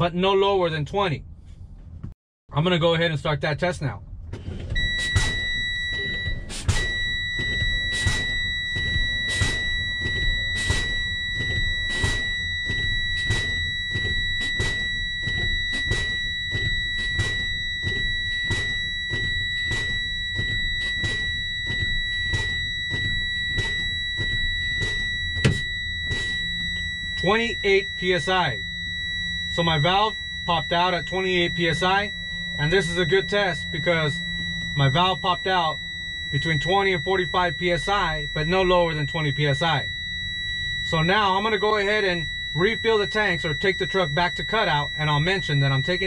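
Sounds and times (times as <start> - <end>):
warning buzzer beep-tone: 4.7 - 46.0.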